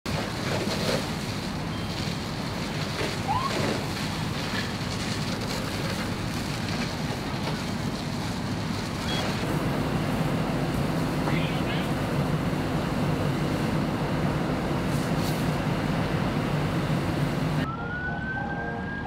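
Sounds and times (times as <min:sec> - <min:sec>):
fire hoses spraying water: 0:00.1 - 0:17.7.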